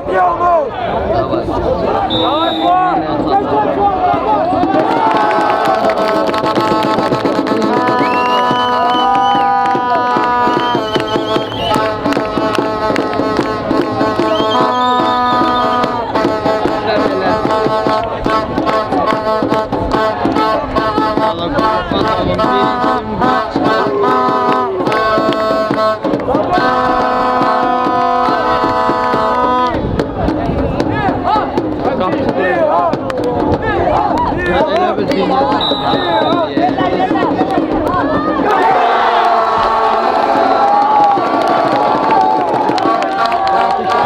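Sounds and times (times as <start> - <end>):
fast drumming: 3.3 - 44.0.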